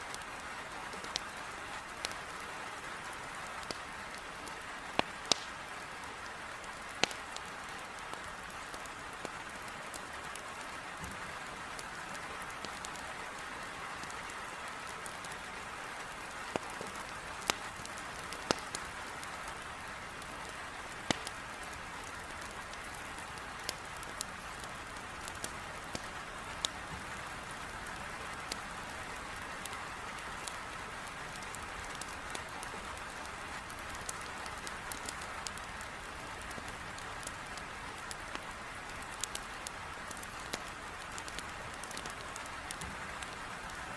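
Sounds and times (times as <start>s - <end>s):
heavy rain on a window: 0.0s - 43.9s
wood fire crackling: 0.0s - 43.9s.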